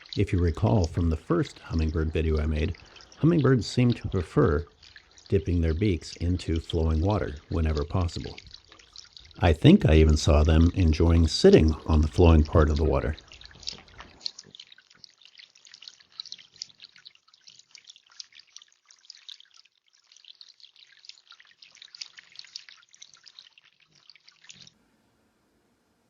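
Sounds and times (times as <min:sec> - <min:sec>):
fountain water trickling: 0:00.0 - 0:24.7.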